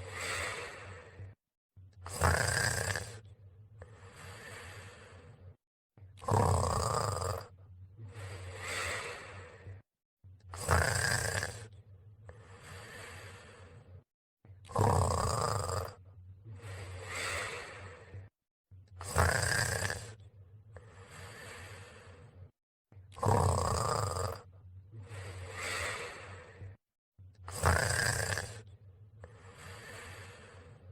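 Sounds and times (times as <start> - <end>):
person snoring: 0.0 - 1.4, 2.0 - 5.6, 6.2 - 9.8, 10.5 - 14.0, 14.6 - 18.3, 19.0 - 22.5, 23.1 - 26.8, 27.5 - 30.9.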